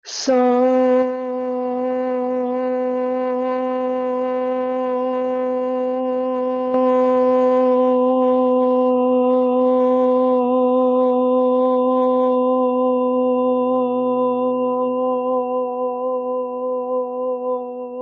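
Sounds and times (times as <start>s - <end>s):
woman chanting one steady note: 0.0s - 18.0s.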